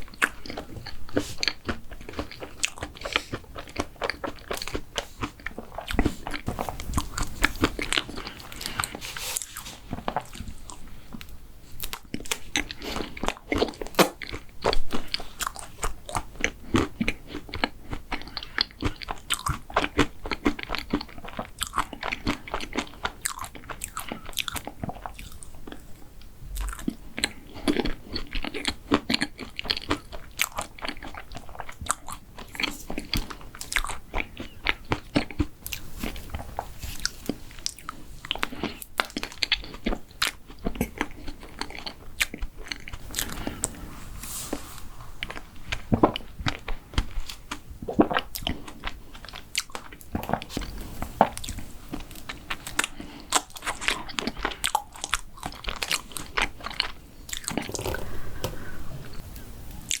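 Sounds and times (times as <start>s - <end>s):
person chewing crunchy chocolate: 0.0s - 43.8s, 45.1s - 59.2s.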